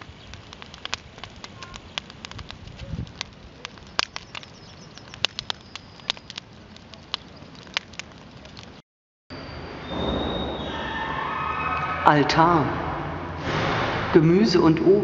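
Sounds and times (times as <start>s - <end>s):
bonfire crackling and popping: 0.0s - 8.8s, 9.8s - 15.0s.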